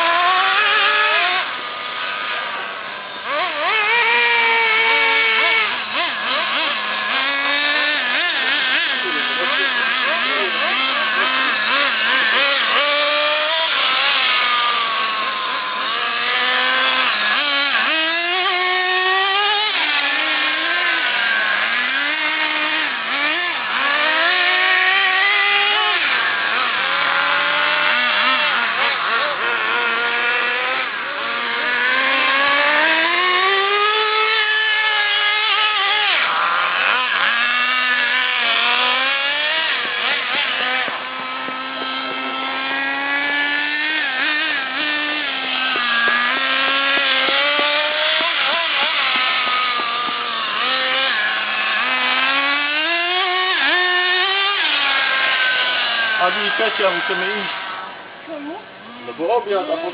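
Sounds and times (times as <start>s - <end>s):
radio-controlled car motor: 0.0s - 59.9s.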